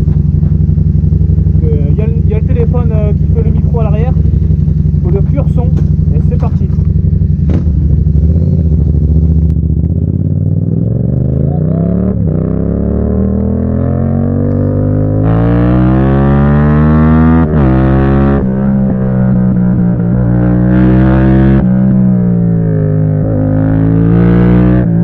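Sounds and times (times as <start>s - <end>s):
motorcycle engine accelerating hard: 0.0s - 25.0s.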